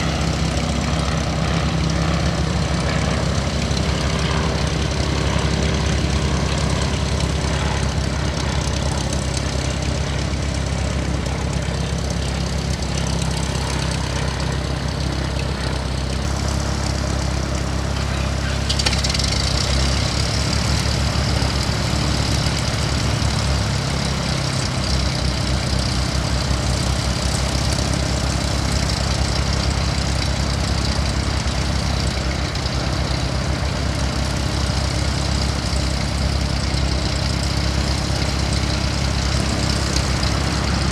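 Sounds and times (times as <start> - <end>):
engines droning: 0.0 - 40.9.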